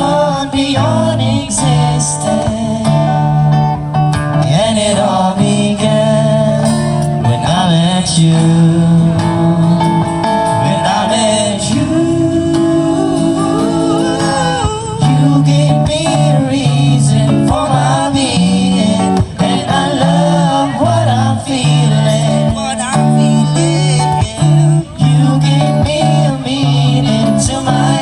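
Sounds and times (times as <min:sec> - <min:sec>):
acoustic guitar: 0:00.0 - 0:28.0
man singing: 0:00.0 - 0:28.0.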